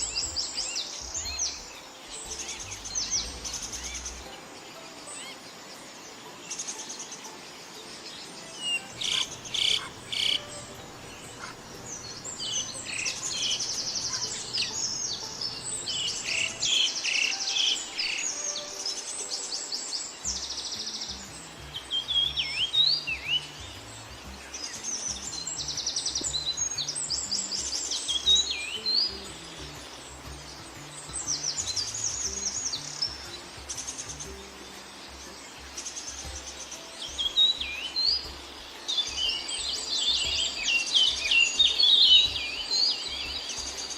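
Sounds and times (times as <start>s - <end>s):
birds calling and singing: 0.0s - 43.9s
downslurred whistled bird notes: 0.0s - 43.9s.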